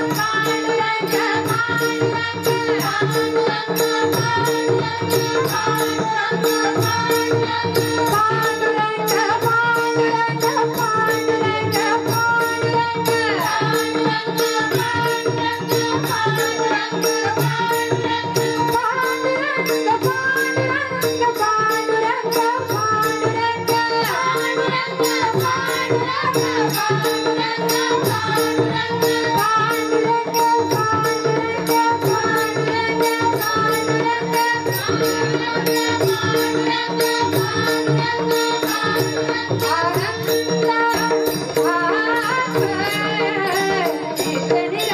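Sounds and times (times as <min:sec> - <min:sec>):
hand percussion: 0:00.0 - 0:44.9
woman singing: 0:00.0 - 0:44.9.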